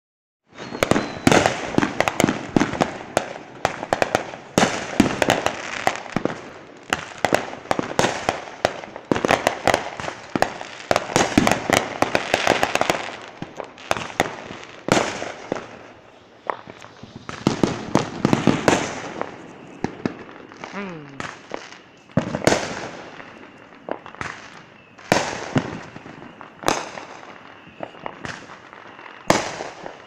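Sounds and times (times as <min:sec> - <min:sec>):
fireworks popping and crackling: 0:00.5 - 0:30.0.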